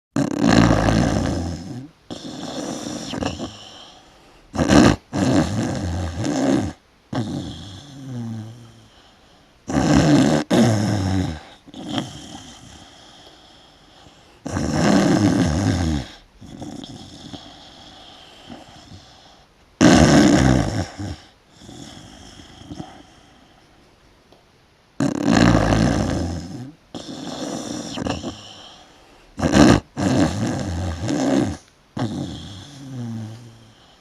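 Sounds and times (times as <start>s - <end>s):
man snoring loudly: 0.2s - 3.9s, 4.5s - 8.9s, 9.7s - 13.2s, 14.4s - 19.1s, 19.8s - 23.1s, 25.0s - 28.8s, 29.4s - 33.8s
quiet breathing: 1.1s - 5.8s, 7.1s - 9.8s, 10.4s - 19.7s, 20.3s - 24.0s, 25.9s - 34.0s.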